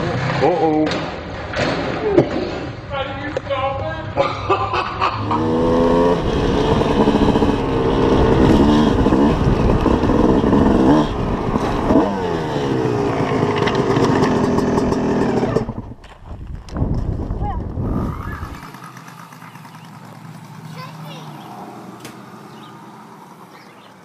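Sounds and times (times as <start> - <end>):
dirt bike engines revving: 0.0 - 16.0, 17.7 - 24.0.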